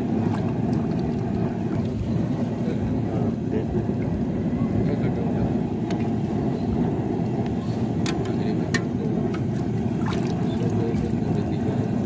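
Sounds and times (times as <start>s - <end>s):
gas burner roaring: 0.0s - 12.0s.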